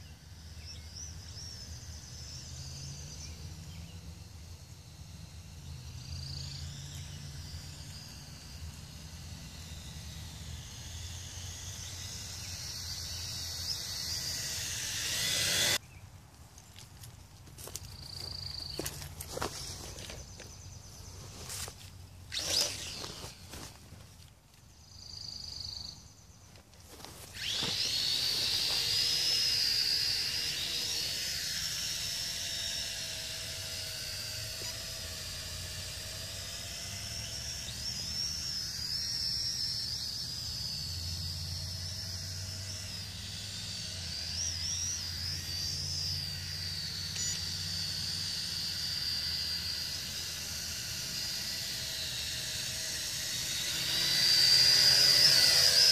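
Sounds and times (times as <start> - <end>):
toy drone propellers whining: 0.0 - 15.9, 16.8 - 55.9.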